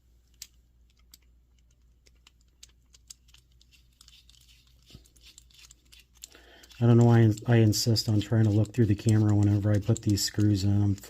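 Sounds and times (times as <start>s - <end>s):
small metal clicks and taps: 0.3s - 11.0s.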